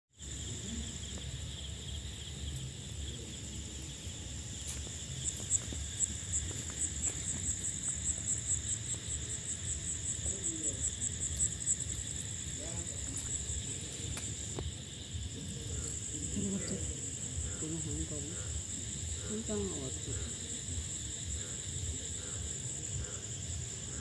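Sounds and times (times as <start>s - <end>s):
insects trilling: 0.2s - 24.0s.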